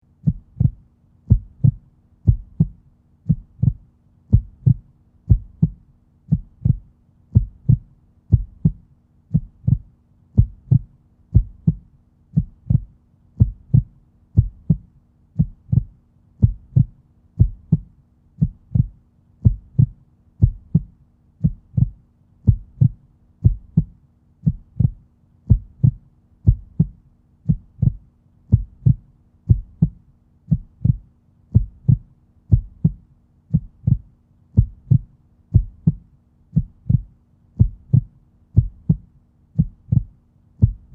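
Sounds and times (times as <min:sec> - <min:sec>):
heartbeat thuds: 0:00.2 - 0:40.9.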